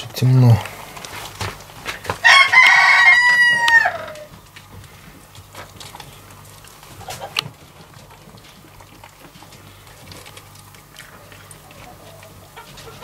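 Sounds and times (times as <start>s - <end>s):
ram chewing and crunching feed: 0.0s - 13.0s
steady low hum: 0.0s - 13.0s.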